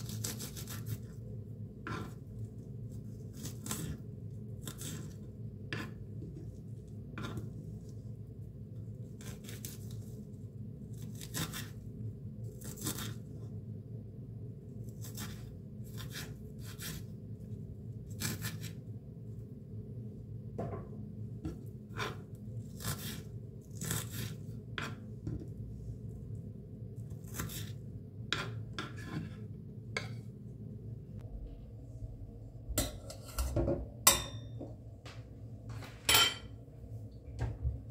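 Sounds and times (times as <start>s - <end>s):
low background hum: 0.0s - 37.9s.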